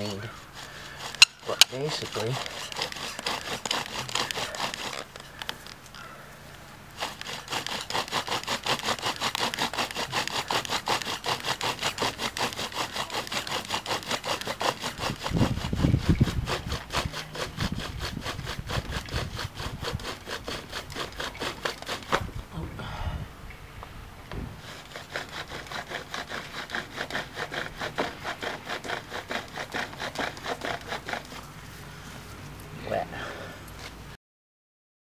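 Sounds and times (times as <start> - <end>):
wood-on-wood friction rubbing: 0.0 - 5.9, 6.9 - 22.4, 24.3 - 31.8.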